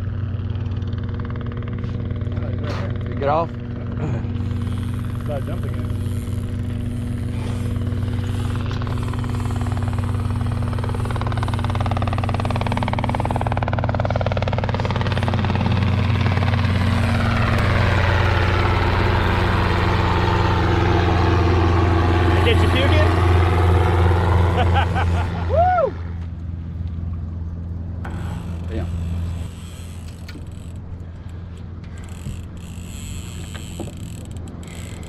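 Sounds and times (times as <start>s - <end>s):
helicopter flying past: 0.0s - 35.0s.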